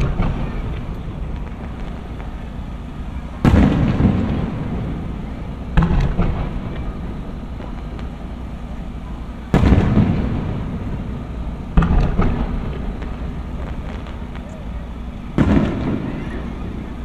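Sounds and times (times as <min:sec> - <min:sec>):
firework shells booming: 0:00.0 - 0:17.0
long rolling echo: 0:00.0 - 0:17.0.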